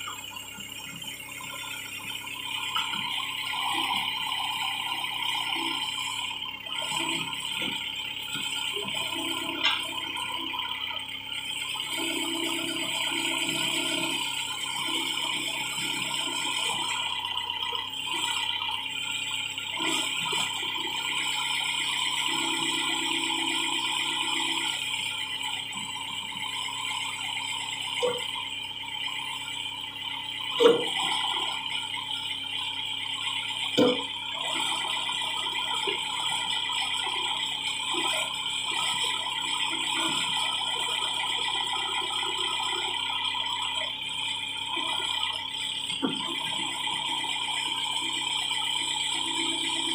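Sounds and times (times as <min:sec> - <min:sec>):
backhoe engine whine: 0:00.0 - 0:49.9.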